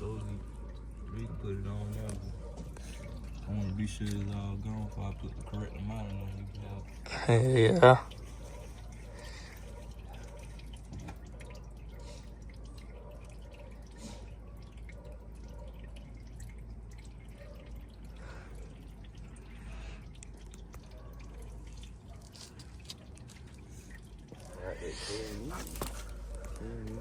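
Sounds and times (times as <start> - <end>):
engine oil dripping: 0.0 - 27.0.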